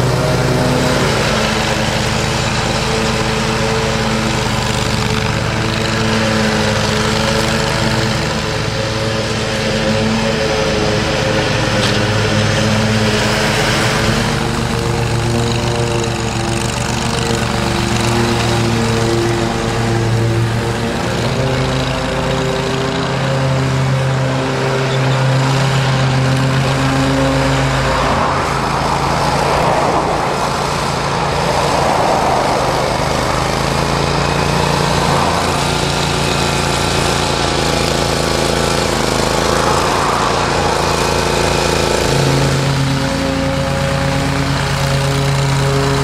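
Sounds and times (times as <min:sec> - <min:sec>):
mower engines running: 0:00.0 - 0:46.0.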